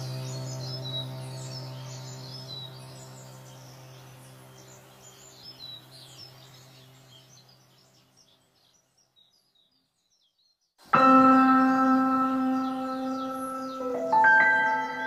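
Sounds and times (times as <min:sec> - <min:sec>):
low sustained musical tone: 0:00.0 - 0:08.6, 0:10.9 - 0:15.0
birds chirping: 0:00.0 - 0:15.0.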